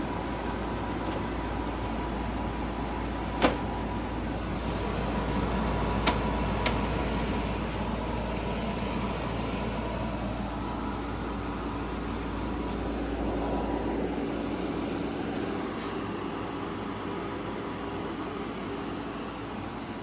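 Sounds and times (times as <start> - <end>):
air conditioner whooshing: 0.0 - 20.0.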